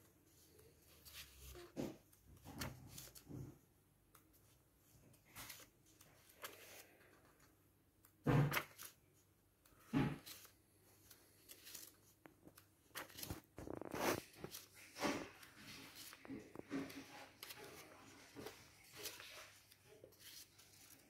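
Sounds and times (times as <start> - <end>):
book pages turning: 0.0 - 21.0.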